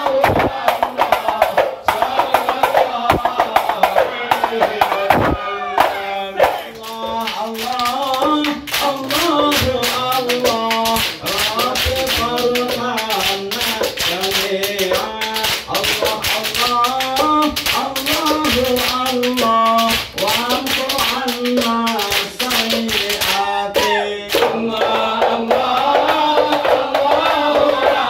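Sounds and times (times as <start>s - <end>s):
frame drums: 0.0s - 28.0s
men singing a chant: 0.0s - 28.0s
rhythmic hand-clapping: 0.0s - 28.0s.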